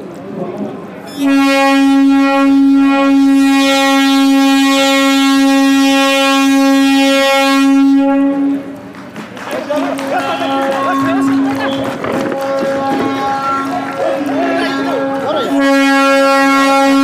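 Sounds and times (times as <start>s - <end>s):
train horn long blast: 1.1s - 8.8s, 9.9s - 17.0s.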